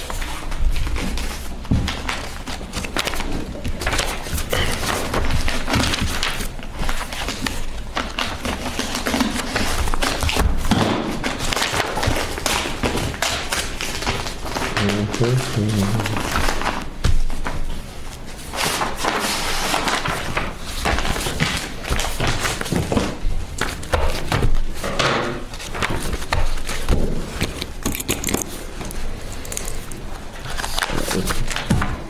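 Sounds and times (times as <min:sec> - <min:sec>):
papers thumping on table: 0:00.0 - 0:17.8, 0:18.5 - 0:28.2, 0:30.5 - 0:32.0
paper rustling: 0:00.0 - 0:32.0.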